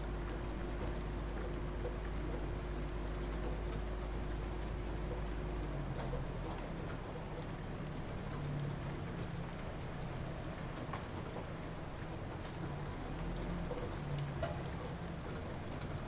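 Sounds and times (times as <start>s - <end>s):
light rain falling: 0.0s - 16.0s
low steady rumble: 0.0s - 16.0s
raindrops ticking: 0.0s - 16.0s.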